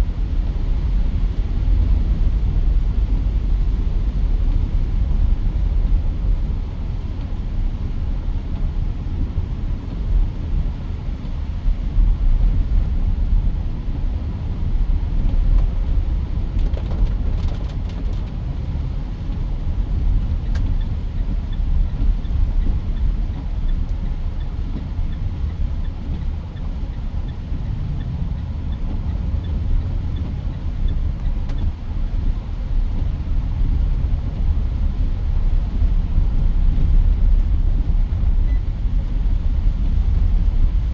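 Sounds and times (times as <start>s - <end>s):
car cabin road and engine rumble: 0.0s - 40.9s.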